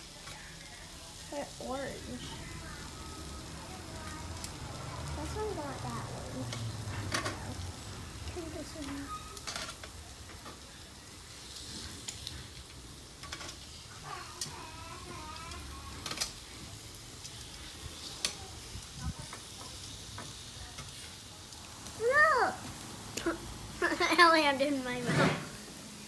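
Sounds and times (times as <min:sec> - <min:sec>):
meat sizzling on a grill: 0:00.0 - 0:26.0.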